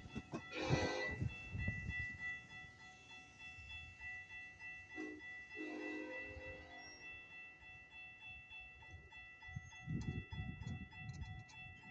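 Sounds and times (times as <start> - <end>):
railroad crossing bell ringing: 0.0 - 11.9.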